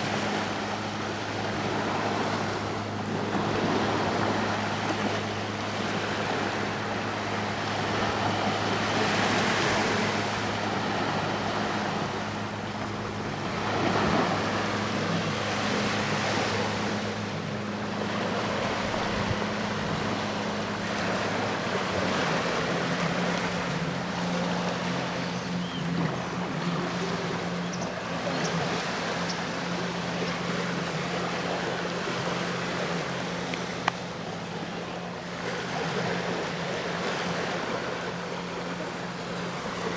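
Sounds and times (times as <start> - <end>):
boat engine hum: 0.0 - 39.9
sea waves washing onto shore: 0.0 - 39.9.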